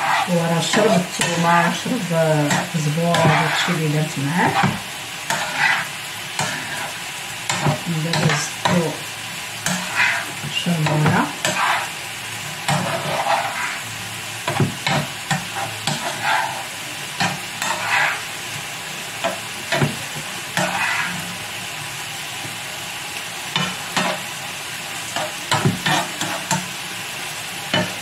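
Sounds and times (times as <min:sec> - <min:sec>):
spoon scraping a pan: 0:00.0 - 0:21.4, 0:23.5 - 0:24.3, 0:25.0 - 0:26.8, 0:27.7 - 0:28.0
bean pods sizzling in oil: 0:00.0 - 0:28.0.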